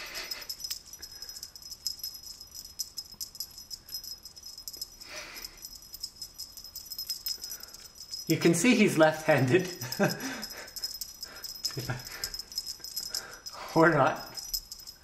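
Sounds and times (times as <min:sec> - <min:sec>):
cat toy rattling and jingling: 0:00.0 - 0:15.0.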